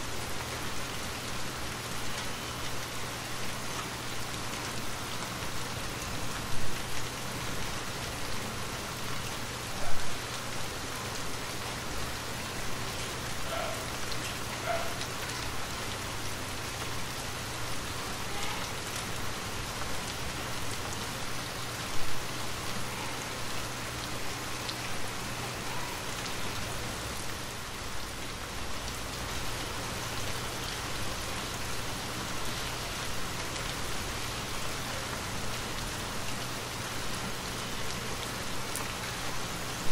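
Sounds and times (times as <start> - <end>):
rain spatters: 0.0 - 39.9
steady rain falling: 0.0 - 39.9.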